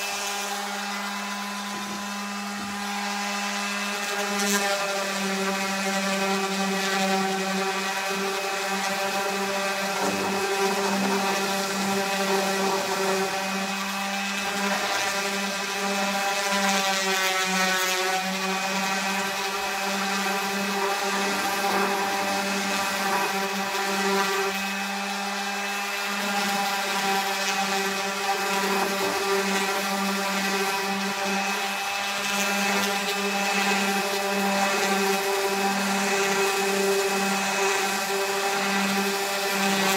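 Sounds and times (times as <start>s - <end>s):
orbital sander running: 0.0s - 39.9s.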